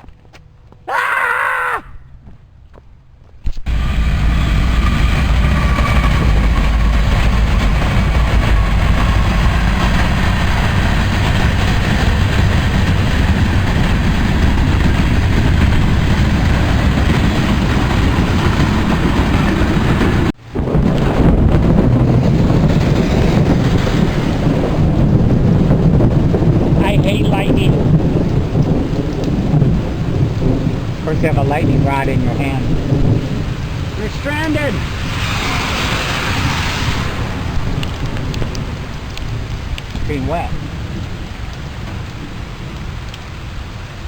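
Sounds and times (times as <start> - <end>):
wind rumbling on microphone: 1.9 - 44.0
heavy rain pouring: 3.7 - 44.0.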